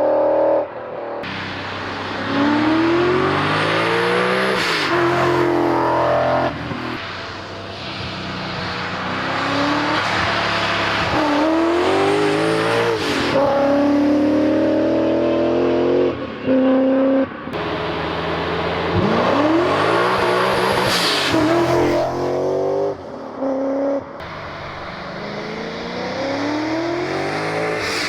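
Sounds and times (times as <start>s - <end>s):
car engine accelerating: 0.0s - 28.0s
wind and road noise: 0.0s - 28.0s.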